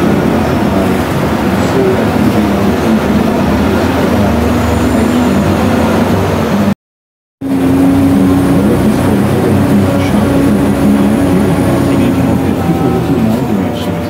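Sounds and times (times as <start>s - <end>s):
tram engine drone: 0.0s - 6.8s, 7.4s - 14.0s.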